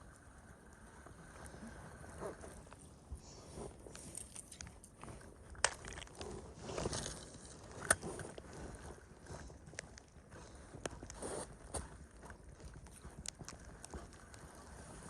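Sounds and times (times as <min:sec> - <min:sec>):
footsteps crunching in snow: 0:02.5 - 0:15.0.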